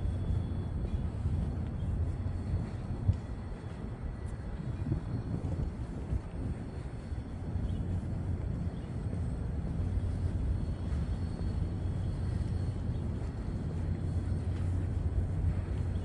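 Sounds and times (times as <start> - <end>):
low rumble of city ambience: 0.0 - 16.0.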